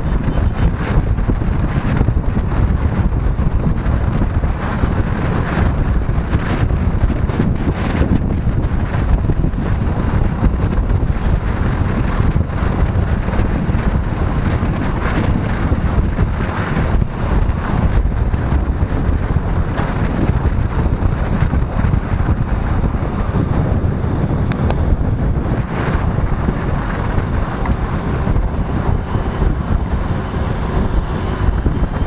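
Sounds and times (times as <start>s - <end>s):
road noise: 0.0s - 32.0s
wind rushing over microphone: 0.0s - 32.0s.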